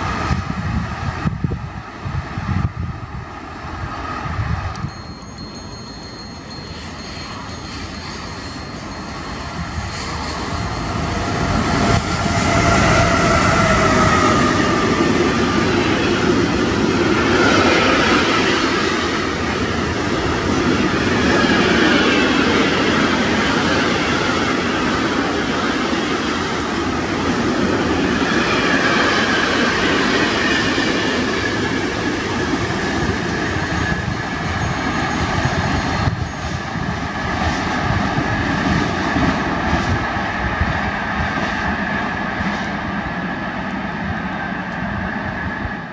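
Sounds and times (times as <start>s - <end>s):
train rumble and rail clatter: 0.0s - 45.9s
locomotive whining tones: 4.7s - 25.0s, 27.7s - 45.9s.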